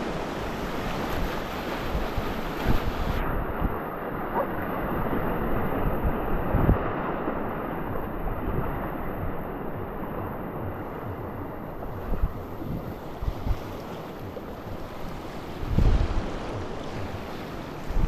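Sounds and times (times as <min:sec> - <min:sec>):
river water rushing and splashing: 0:00.0 - 0:18.0
wind buffeting microphone: 0:00.0 - 0:18.0.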